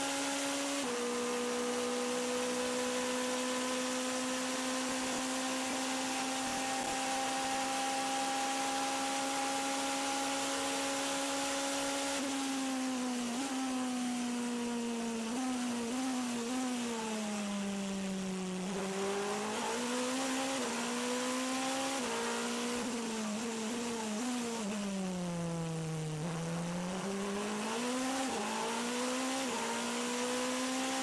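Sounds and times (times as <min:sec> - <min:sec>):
race car engine at full throttle: 0:00.0 - 0:31.0.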